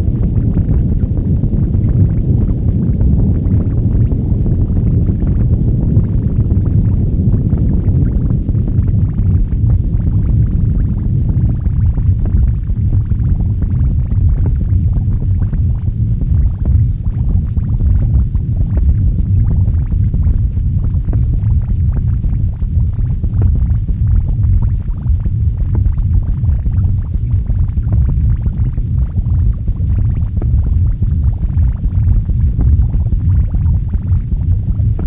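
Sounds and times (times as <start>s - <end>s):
low rumble: 0.0s - 35.0s.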